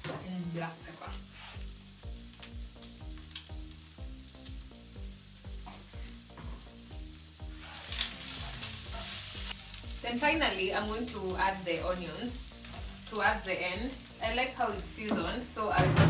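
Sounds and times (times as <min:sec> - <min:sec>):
meat sizzling in a pan: 0:00.0 - 0:15.8
quiet background music with beat: 0:00.0 - 0:16.0.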